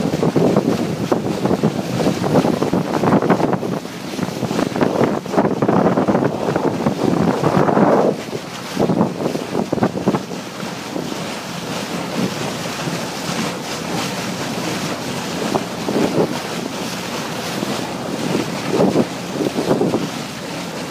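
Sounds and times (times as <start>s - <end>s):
water rushing along boat hull: 0.0s - 20.9s
wind buffeting microphone: 0.0s - 20.9s.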